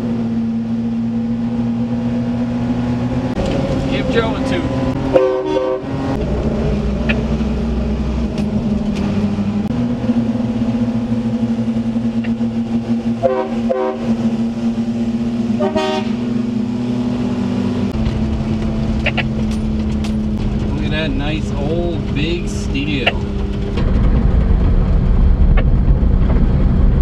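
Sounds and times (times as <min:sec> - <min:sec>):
truck engine drone: 0:00.0 - 0:27.0.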